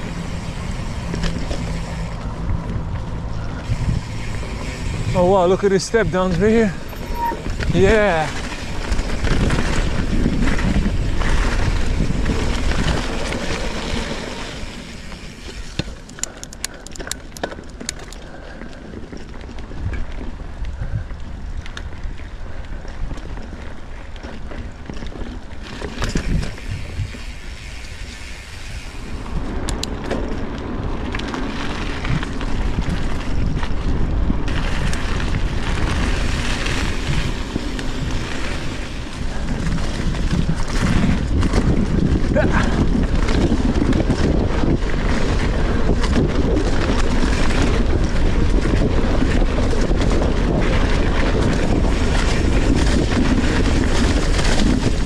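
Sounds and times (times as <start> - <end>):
bike rattling: 0.0 - 55.0
bike tyres rolling on dirt: 0.0 - 55.0
wind buffeting microphone: 0.0 - 55.0.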